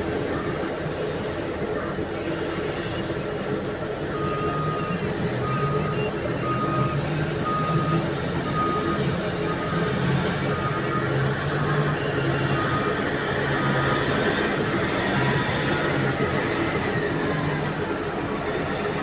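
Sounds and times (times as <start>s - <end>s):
heavy diesel machinery running: 0.0s - 19.0s
truck reversing alarm beeps: 0.0s - 19.0s.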